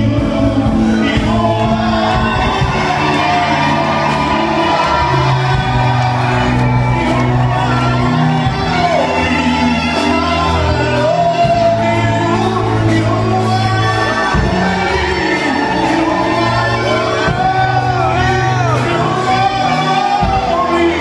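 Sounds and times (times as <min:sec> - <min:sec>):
amplified backing music: 0:00.0 - 0:21.0
man singing into a microphone: 0:00.0 - 0:21.0
crowd shouting and whooping: 0:00.6 - 0:21.0.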